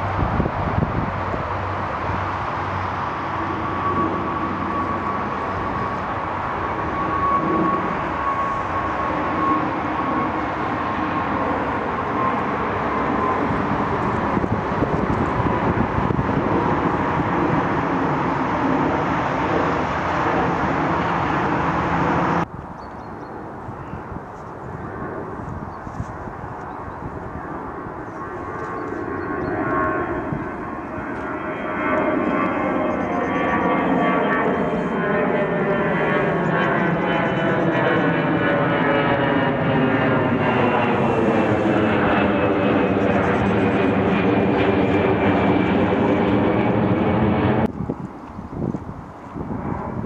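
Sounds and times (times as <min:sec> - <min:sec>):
faint high jet whine: 0:00.0 - 0:50.0
jet airliner roar: 0:00.0 - 0:50.0.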